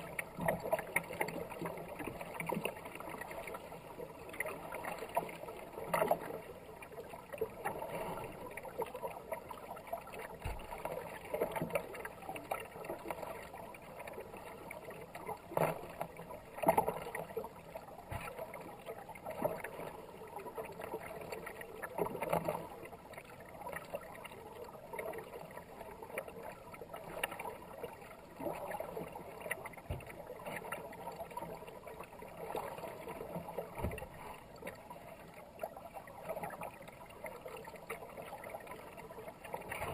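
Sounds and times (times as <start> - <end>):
water running along hull: 0.0 - 39.9.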